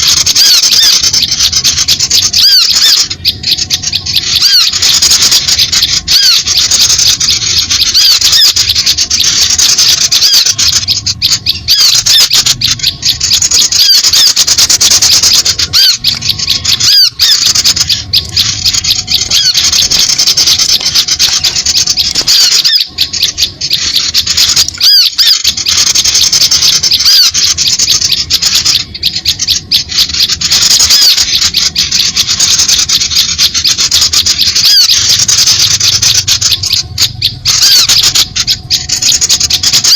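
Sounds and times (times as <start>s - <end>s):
many small birds chattering: 0.0s - 39.9s.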